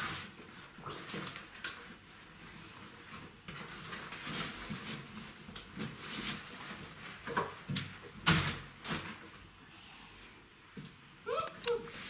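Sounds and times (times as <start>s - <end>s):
puppies scuffling and rustling: 0.0s - 9.7s, 10.4s - 12.0s.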